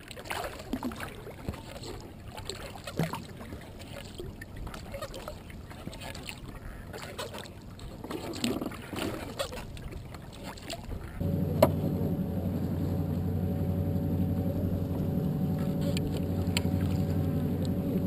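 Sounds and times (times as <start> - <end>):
outboard motor droning: 0.0 - 18.0
paddle splashes: 0.0 - 18.0
water lapping: 0.0 - 18.0.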